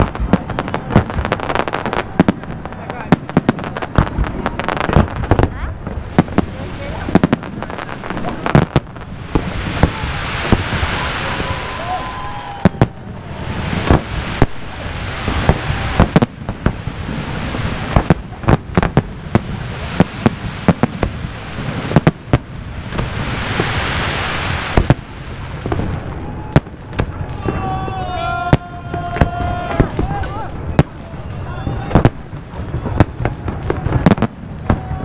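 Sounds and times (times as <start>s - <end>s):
firecrackers banging: 0.0s - 35.0s
fireworks crackling: 0.0s - 35.0s.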